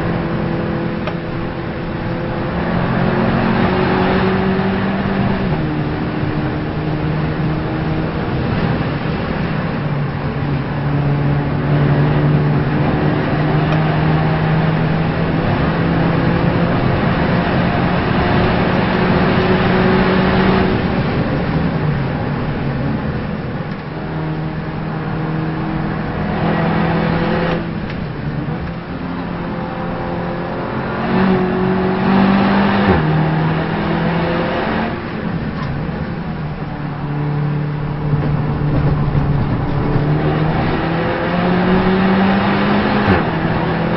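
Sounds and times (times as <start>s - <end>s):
race car engine with gear changes: 0.0s - 43.9s.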